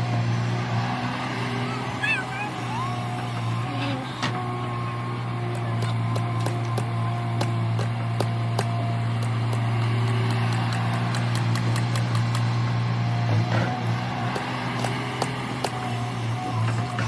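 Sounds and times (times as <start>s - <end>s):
diesel engine humming: 1.0s - 13.1s, 13.9s - 17.0s.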